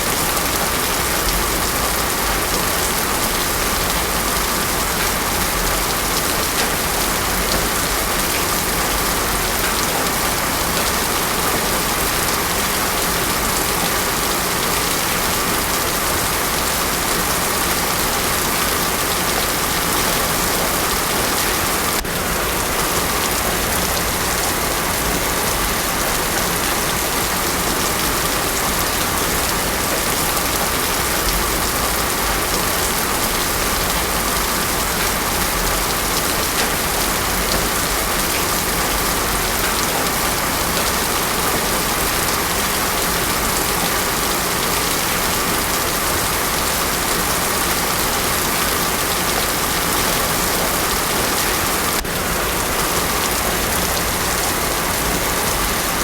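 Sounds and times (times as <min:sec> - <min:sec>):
heavy rain on a road: 0:00.0 - 0:56.0.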